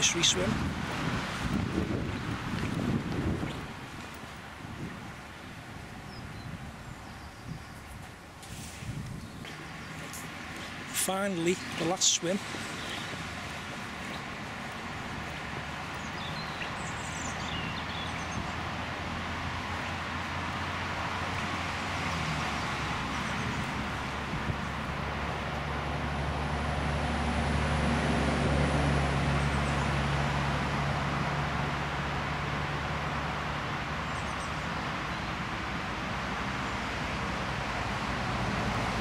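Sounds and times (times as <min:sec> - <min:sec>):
motor vehicle hum: 0:00.0 - 0:39.0
outdoor noise haze: 0:00.0 - 0:39.0.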